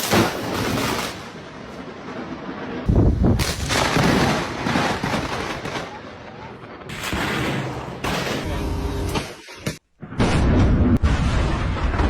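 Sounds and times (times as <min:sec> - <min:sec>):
thunder rumbling and cracking: 0:00.0 - 0:08.8, 0:10.0 - 0:12.0.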